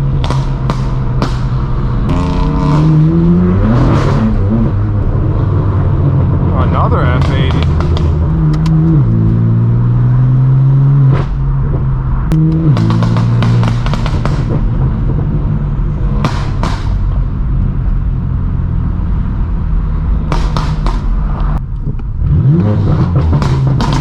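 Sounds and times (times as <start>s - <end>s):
car exhaust revving: 0.0s - 24.0s
exhaust crackles and pops: 0.0s - 24.0s.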